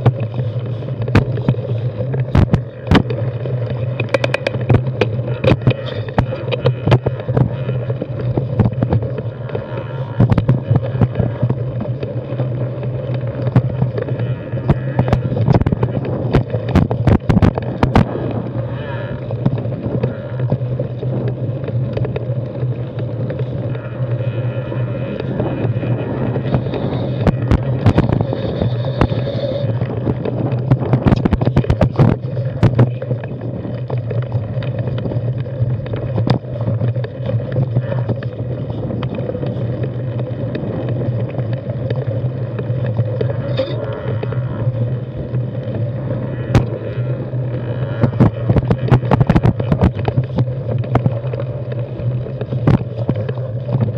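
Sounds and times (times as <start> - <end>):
bike rattling over rocks: 0.0 - 53.9
bike tyres rumbling on dirt: 0.0 - 53.9.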